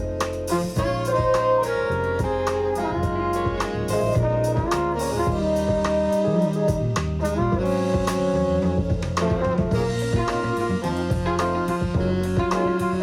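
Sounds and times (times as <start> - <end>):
drum kit strikes: 0.0 - 13.0
jazz horn lines: 0.0 - 13.0.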